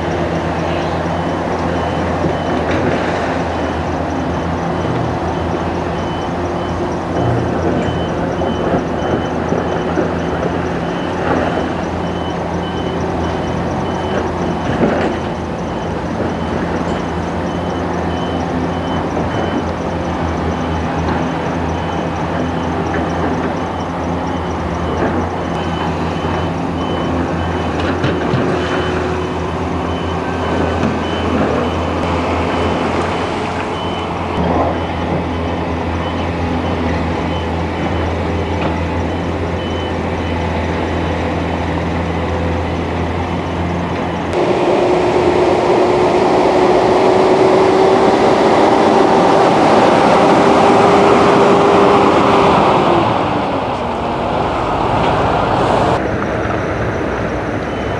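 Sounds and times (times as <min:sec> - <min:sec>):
reversing alarm beeping: 0:00.0 - 0:56.0, 0:56.9 - 0:57.9
diesel truck engines droning: 0:00.0 - 0:57.9
truck engine whine: 0:00.0 - 0:57.9.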